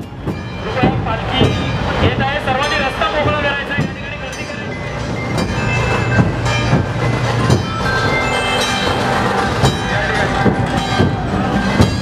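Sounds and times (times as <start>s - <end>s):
crowd din: 0.0s - 12.0s
drum strikes: 0.0s - 12.0s
ringing metallic tones: 0.0s - 12.0s.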